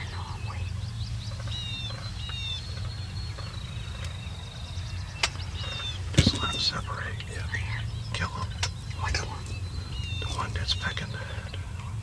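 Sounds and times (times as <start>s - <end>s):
songbirds chirping and whistling: 0.0s - 12.0s
steady low rumble: 0.0s - 12.0s.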